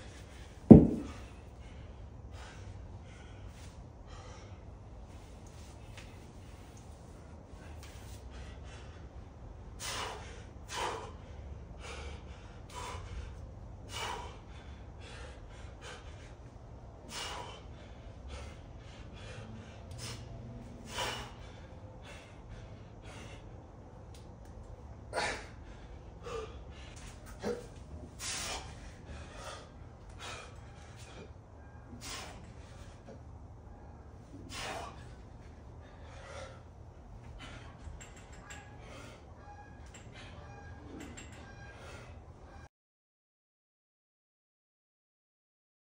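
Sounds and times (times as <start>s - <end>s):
man breathing hard: 0.0s - 24.3s, 24.9s - 33.5s, 34.2s - 40.6s.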